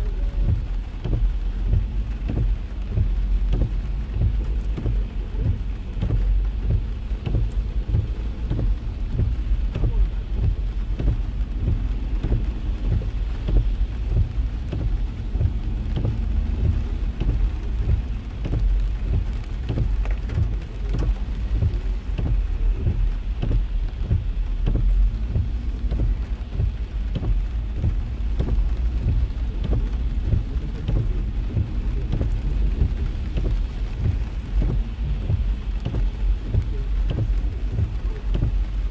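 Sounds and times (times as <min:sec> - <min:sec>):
heavy rain on car roof: 0:00.0 - 0:38.9
steady low rumble: 0:00.0 - 0:38.9.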